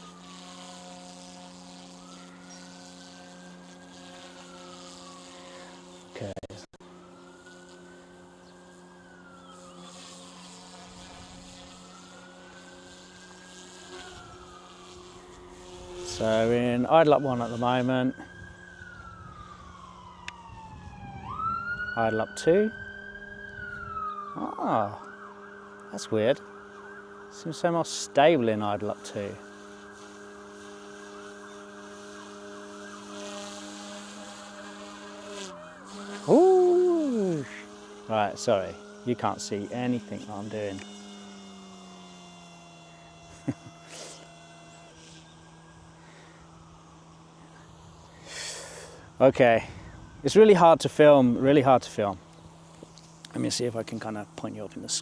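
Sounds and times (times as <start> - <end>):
model helicopter hovering: 0.0 - 55.0.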